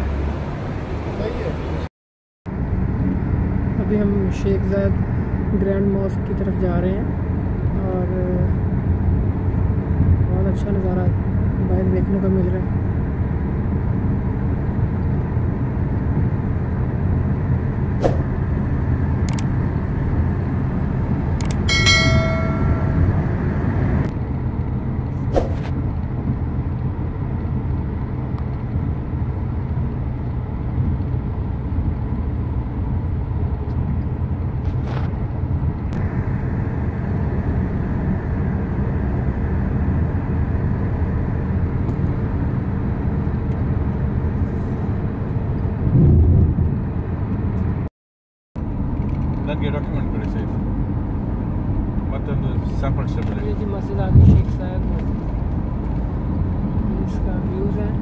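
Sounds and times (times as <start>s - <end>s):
car road and engine rumble: 0.0s - 1.9s, 2.5s - 47.9s, 48.6s - 58.0s.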